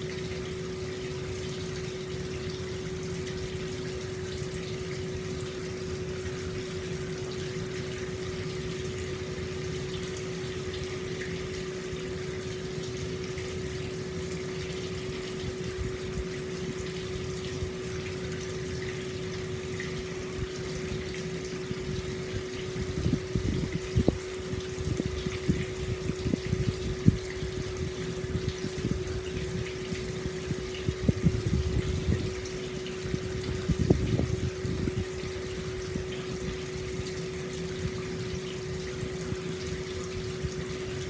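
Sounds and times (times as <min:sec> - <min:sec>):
water flowing into a bath: 0:00.0 - 0:41.0.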